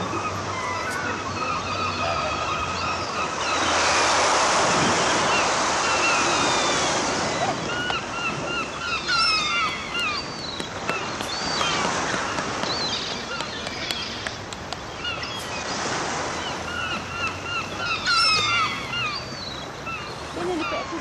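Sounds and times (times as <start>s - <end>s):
surf: 0.0s - 21.0s
wind on microphone: 0.0s - 21.0s.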